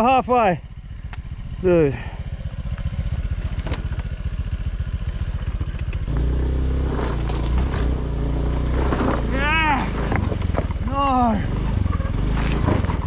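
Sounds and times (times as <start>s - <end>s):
motor scooter engine revving: 2.2s - 13.0s.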